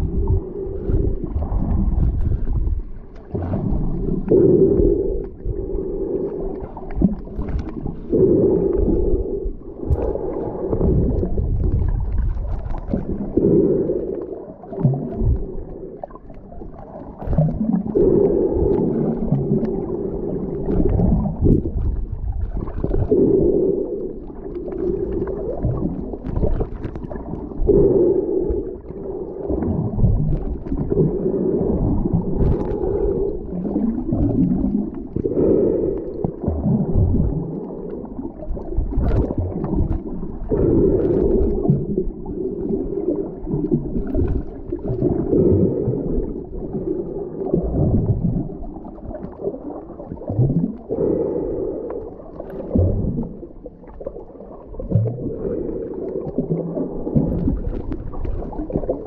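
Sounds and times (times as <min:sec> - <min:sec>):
muffled underwater rumble and gurgle: 0:00.0 - 0:59.0.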